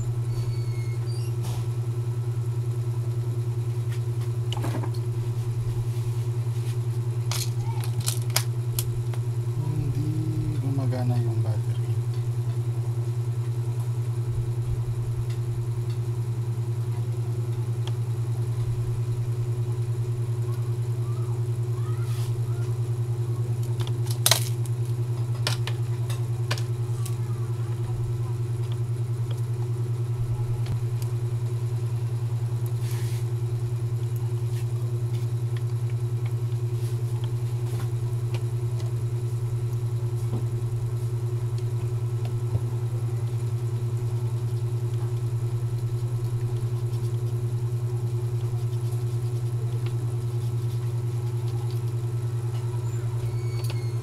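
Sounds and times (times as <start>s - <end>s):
low motor-like hum: 0.0s - 54.0s.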